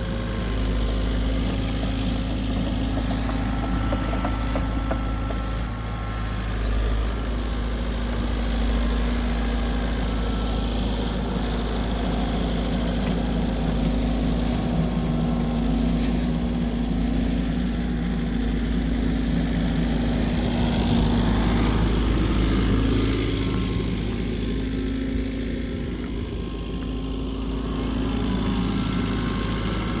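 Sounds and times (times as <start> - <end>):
snow-clearing machine engine humming: 0.0 - 30.0.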